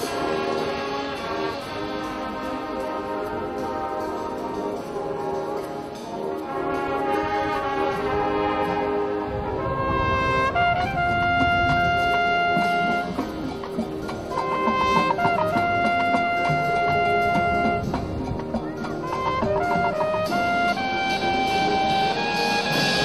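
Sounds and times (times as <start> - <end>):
marching band brass: 0.0 - 23.0.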